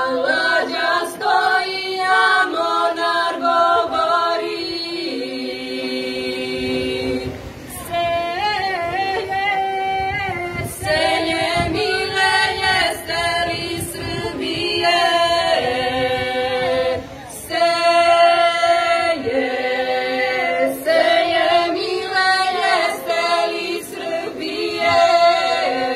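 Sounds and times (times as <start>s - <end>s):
women's choir singing unaccompanied: 0.0s - 25.9s.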